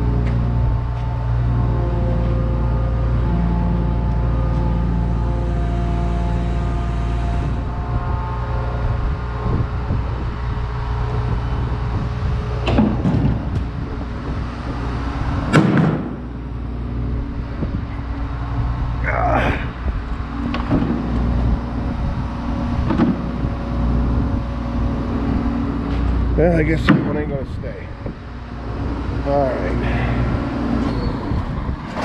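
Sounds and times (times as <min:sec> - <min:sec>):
combine diesel engine running: 0:00.0 - 0:32.0.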